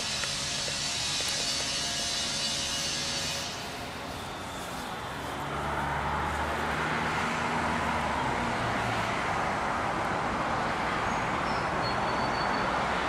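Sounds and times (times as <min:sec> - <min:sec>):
vehicle engine hum: 0:00.0 - 0:11.4
outdoor traffic noise: 0:00.0 - 0:13.0.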